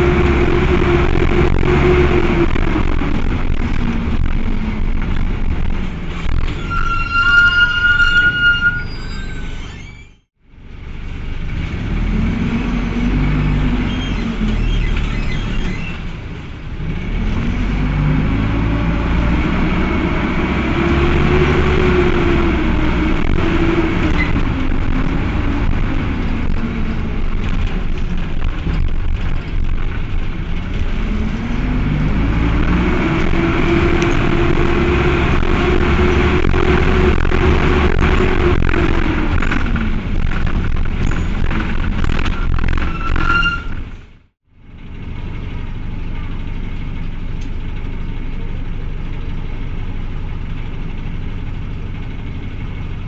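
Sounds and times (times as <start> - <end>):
diesel bus engine revving: 0.0 - 7.2, 10.7 - 53.0.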